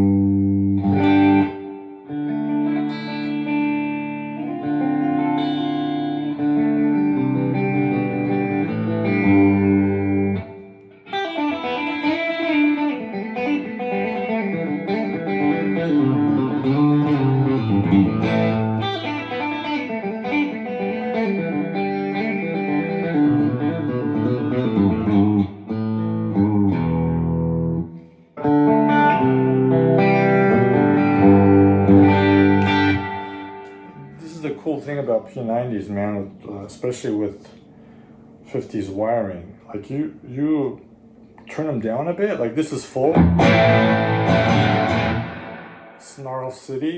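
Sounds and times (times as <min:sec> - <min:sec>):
electric guitar chords and lines: 0:00.0 - 0:34.8, 0:43.1 - 0:46.3.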